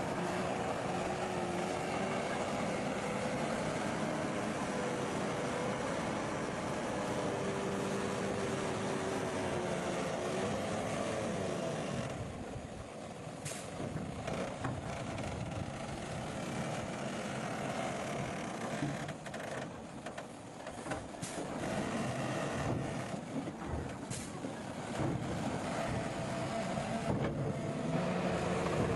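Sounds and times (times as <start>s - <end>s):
bulldozer diesel engine: 0.0s - 28.9s.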